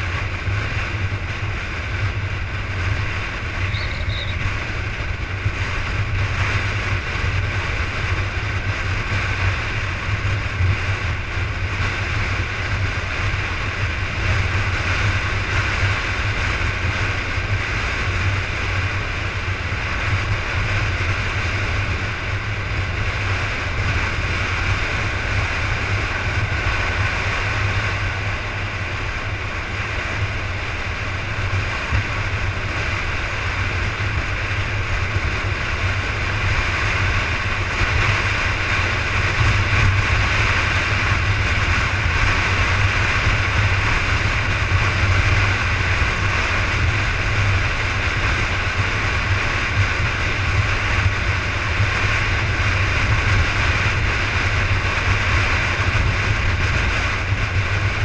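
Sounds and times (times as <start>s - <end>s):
tyre noise on road: 0.0s - 58.0s
vehicle engine rumble: 0.0s - 58.0s.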